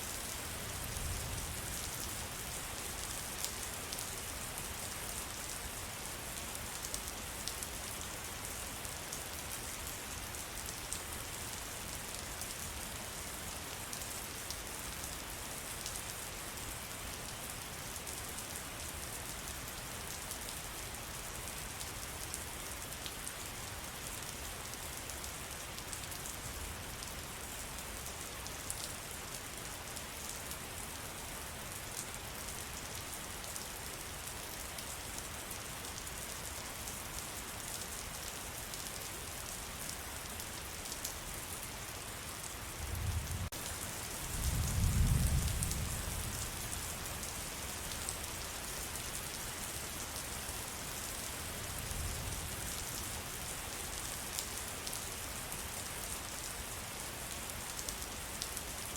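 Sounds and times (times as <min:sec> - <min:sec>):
rain hissing in forest: 0:00.0 - 0:58.9.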